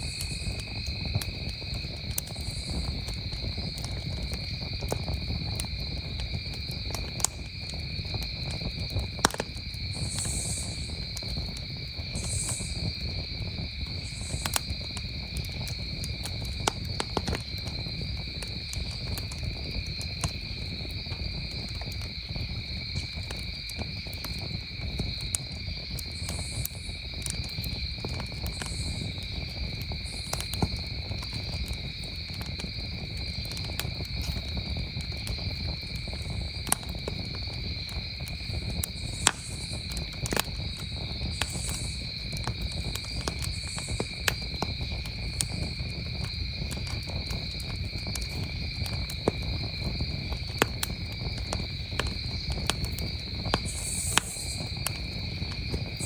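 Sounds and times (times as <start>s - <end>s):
campfire crackling: 0.0s - 56.0s
crickets trilling: 0.0s - 56.0s
fire popping: 0.0s - 56.0s.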